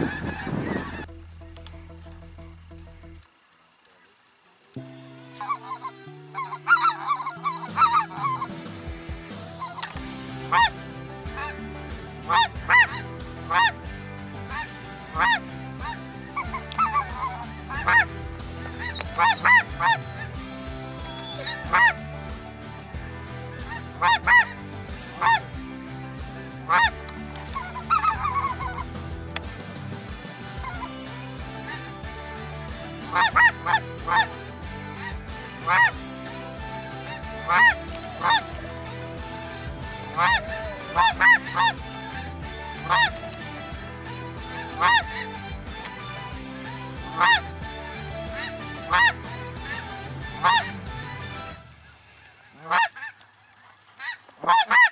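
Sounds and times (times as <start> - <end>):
chatter of goose calls: 0.0 - 1.1, 5.3 - 29.2, 30.3 - 54.9
background music low chords: 0.0 - 54.8
geese honking: 0.0 - 54.9.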